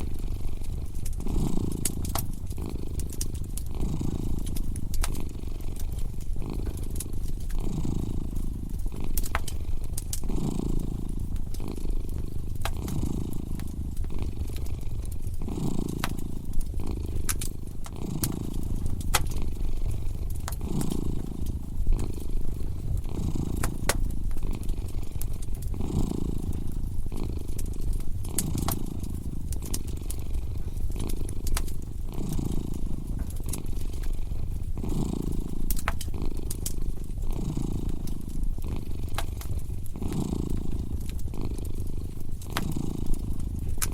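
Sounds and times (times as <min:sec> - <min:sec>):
cat purring: 0:00.0 - 0:43.9
crackling fireplace with pops: 0:00.0 - 0:43.9.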